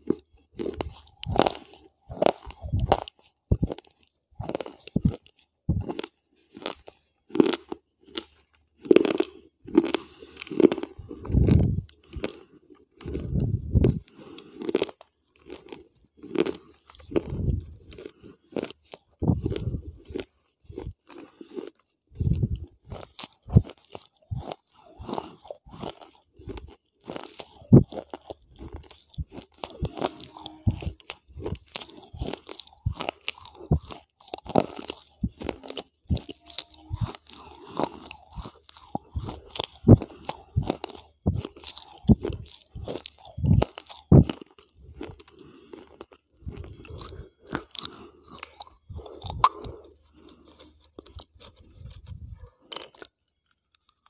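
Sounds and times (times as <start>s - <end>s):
person chewing crunchy chips: 0.0s - 54.0s.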